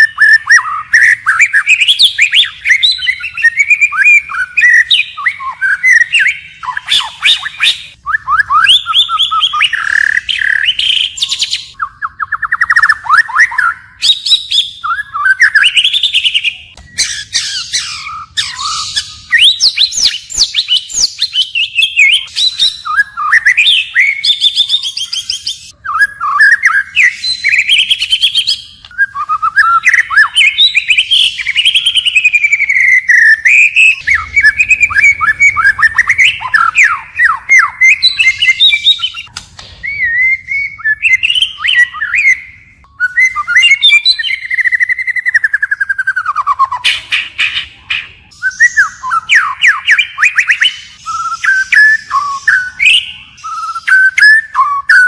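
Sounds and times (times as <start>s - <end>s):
bird singing varied phrases: 0.0s - 55.0s.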